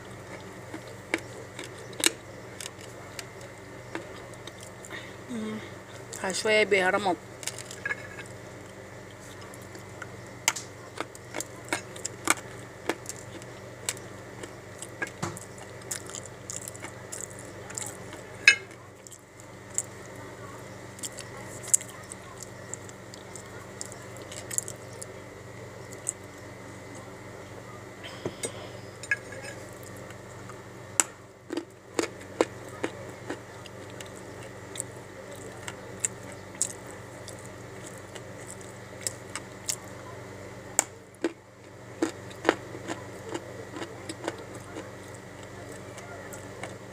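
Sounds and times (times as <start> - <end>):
clay being chewed with crunches: 0.0 - 4.9, 7.3 - 27.1, 28.3 - 40.0, 40.7 - 46.9
steady background hum: 0.0 - 46.9.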